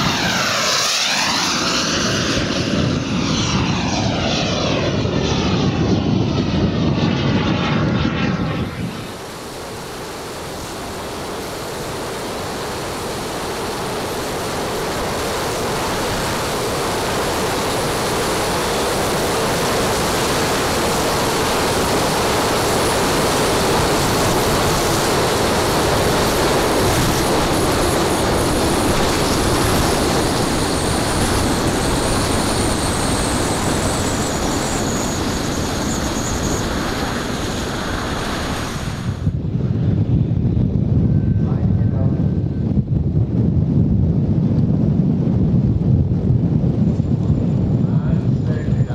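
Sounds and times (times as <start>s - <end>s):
jet engine rush: 0.0s - 48.9s.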